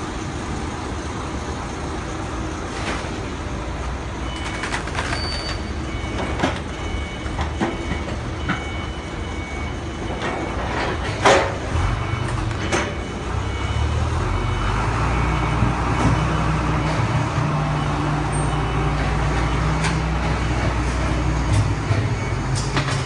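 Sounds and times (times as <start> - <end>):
forklift engine running: 0.0 - 23.0.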